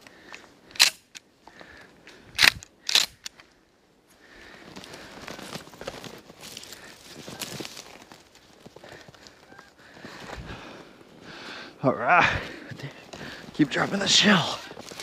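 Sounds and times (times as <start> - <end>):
twigs and snow crunching: 0.0 - 15.0.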